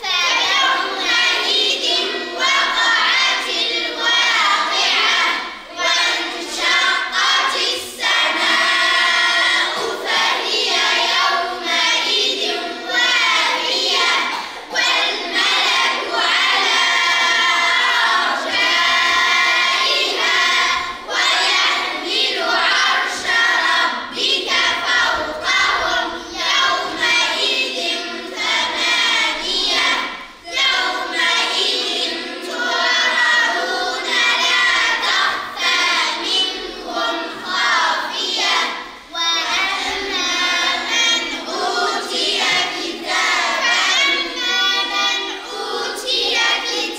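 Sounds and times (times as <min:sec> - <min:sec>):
children chanting in unison: 0:00.0 - 0:46.9.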